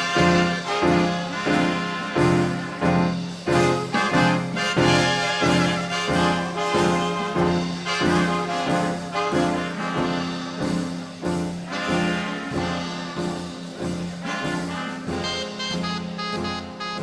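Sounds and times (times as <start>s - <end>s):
big band jazz with brass: 0.0s - 17.0s.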